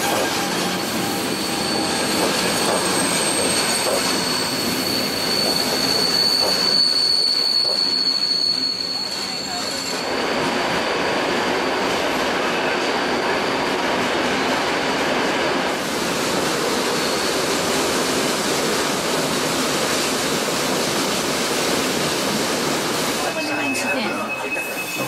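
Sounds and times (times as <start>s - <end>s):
train wheel and rail noise: 0.0s - 25.0s.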